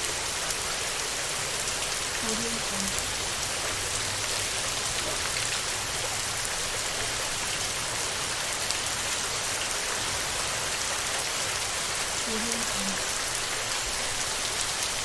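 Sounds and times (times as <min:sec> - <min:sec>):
heavy rain on a metal roof: 0:00.0 - 0:15.0.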